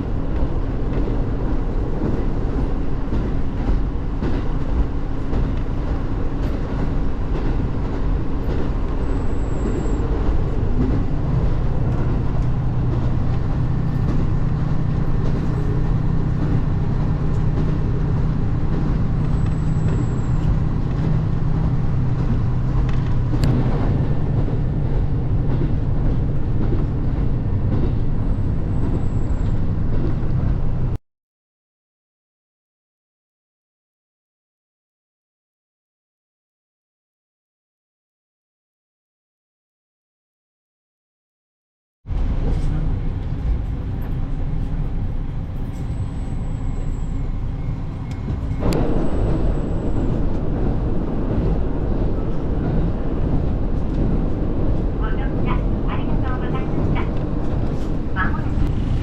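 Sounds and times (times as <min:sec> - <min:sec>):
diesel train rumbling: 0:00.0 - 0:31.0, 0:42.1 - 0:59.0.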